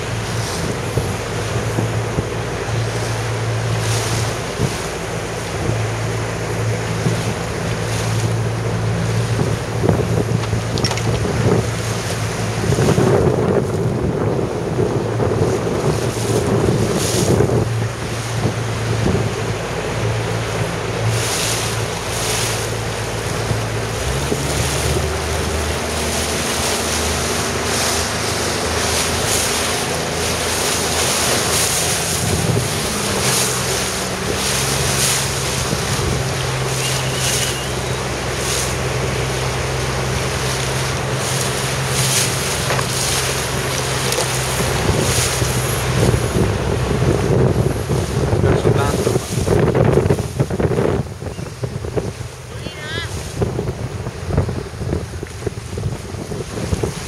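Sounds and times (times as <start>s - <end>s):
low motor hum: 0.0s - 57.0s
water rushing and splashing: 0.0s - 57.0s
wind buffeting microphone: 0.0s - 57.0s.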